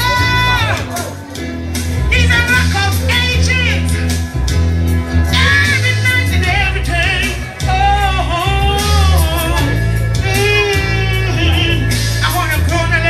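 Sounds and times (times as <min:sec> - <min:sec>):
live band with bass and drums: 0:00.0 - 0:13.0.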